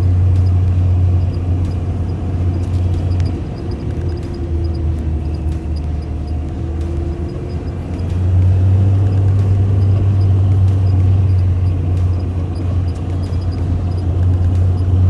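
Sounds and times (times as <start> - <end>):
off-road vehicle engine driving: 0.0 - 15.0.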